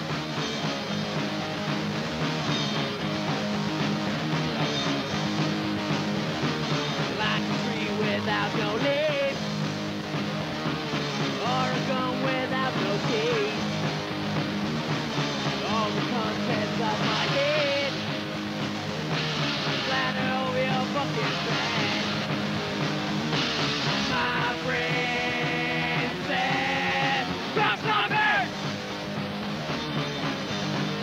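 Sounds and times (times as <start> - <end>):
pop punk band playing: 0.0 - 31.0.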